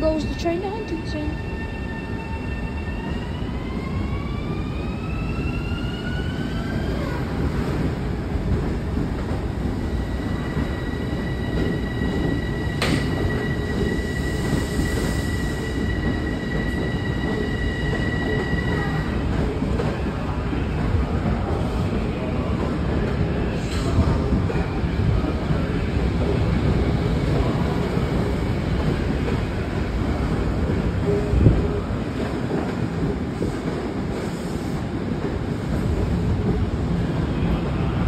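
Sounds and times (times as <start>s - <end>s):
electric train whine: 0.0s - 32.0s.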